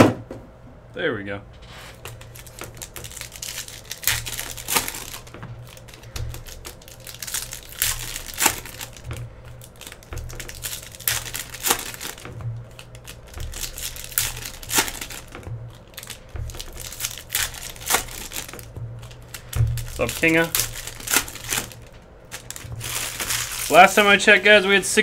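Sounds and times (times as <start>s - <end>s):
foil wrappers crinkling and tearing: 1.6s - 25.0s.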